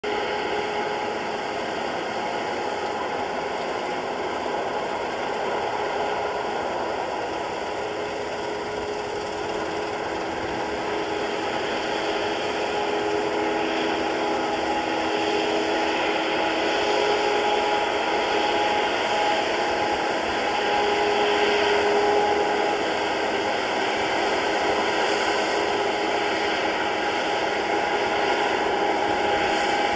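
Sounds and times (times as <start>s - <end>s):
combine harvester whirring: 0.0s - 29.9s.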